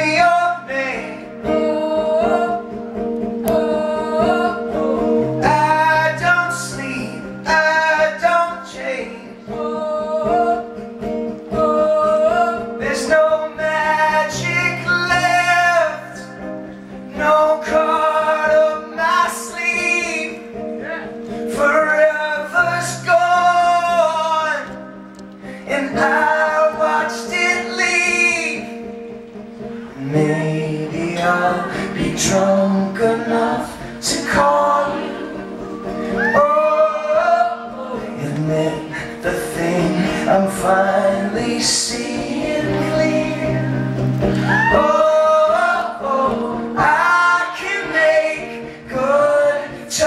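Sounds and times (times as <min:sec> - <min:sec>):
man singing: 0:00.0 - 0:29.0, 0:29.9 - 0:50.0
acoustic guitar chords: 0:00.0 - 0:50.0.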